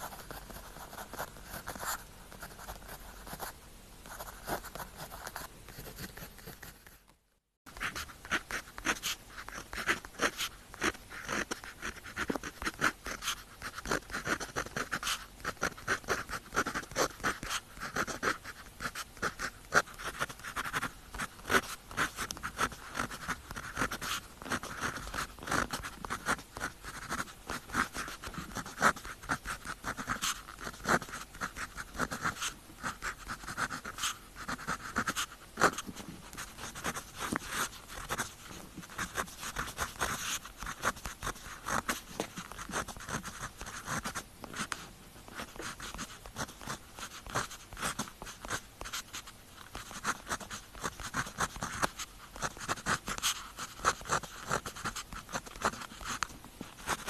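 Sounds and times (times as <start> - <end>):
pen scratching on paper: 0.0 - 3.5, 4.1 - 7.0, 7.7 - 57.0.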